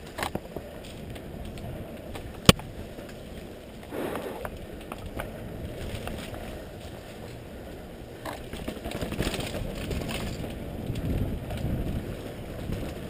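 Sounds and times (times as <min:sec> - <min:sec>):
bike rattling over bumps: 0:00.0 - 0:13.0
bike tyres rumbling on dirt: 0:00.0 - 0:13.0.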